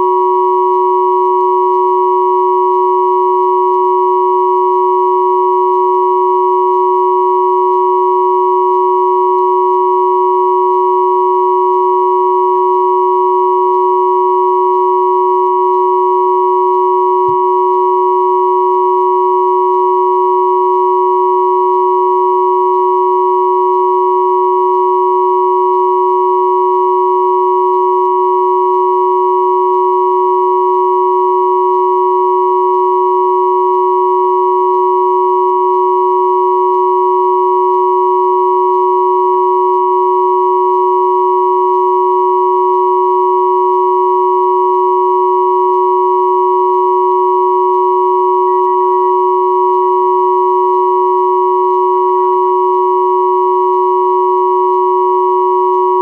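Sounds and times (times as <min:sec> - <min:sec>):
steady electronic sine hum: 0:00.0 - 0:56.0.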